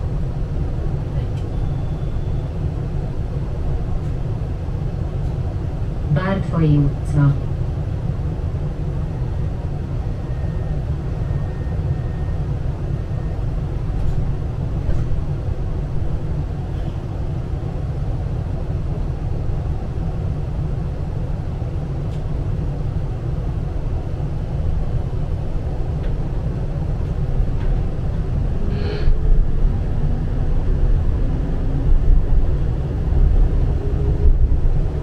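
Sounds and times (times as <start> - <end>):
tram rumbling on rails: 0.0 - 35.0.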